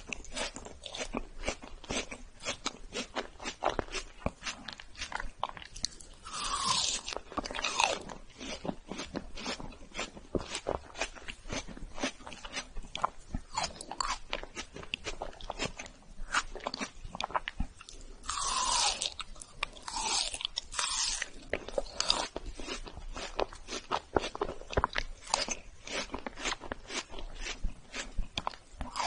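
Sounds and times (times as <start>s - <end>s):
crunching and chewing ice cream bar: 0.0s - 29.0s.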